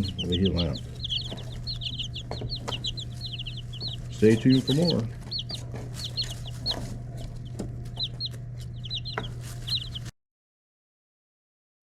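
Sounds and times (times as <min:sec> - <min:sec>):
chicks peeping: 0:00.0 - 0:10.1
low hum: 0:00.0 - 0:10.1.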